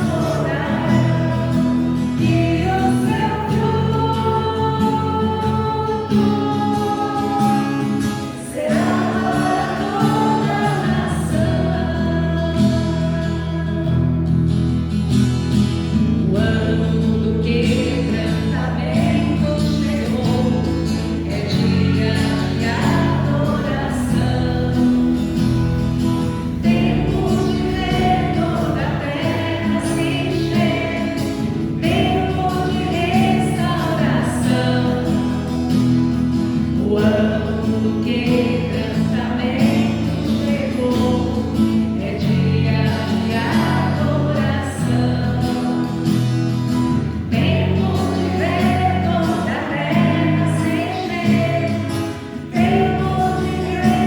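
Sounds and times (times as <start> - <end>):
congregation singing: 0.0 - 14.6, 15.8 - 54.0.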